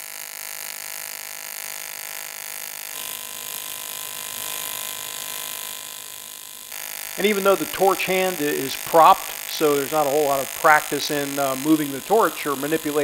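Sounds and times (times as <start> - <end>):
welding arc buzzing: 0.0 - 13.0.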